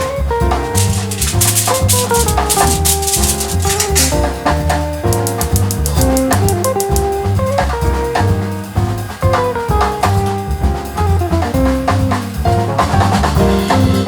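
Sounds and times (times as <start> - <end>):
bass: 0.0 - 14.0
drum kit beat: 0.1 - 14.0.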